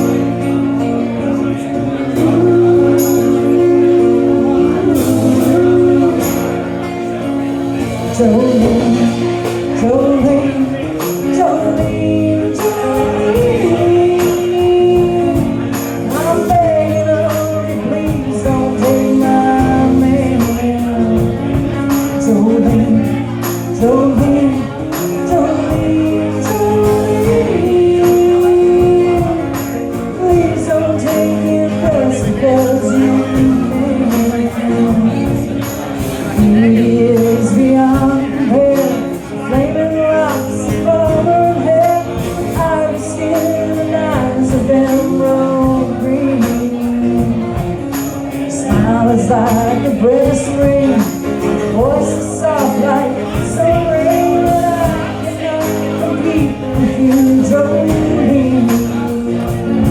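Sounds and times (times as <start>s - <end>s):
live band music: 0.0s - 59.9s.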